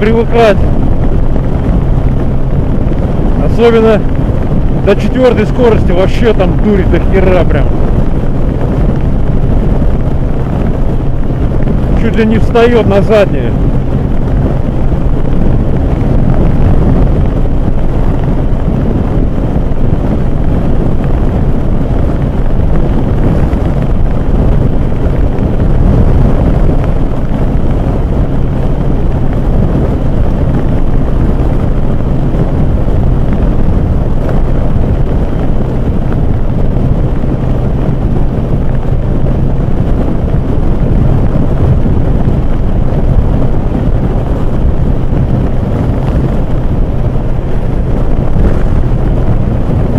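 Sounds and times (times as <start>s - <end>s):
motorcycle engine droning: 0.0s - 49.9s
wind buffeting microphone: 0.0s - 49.9s.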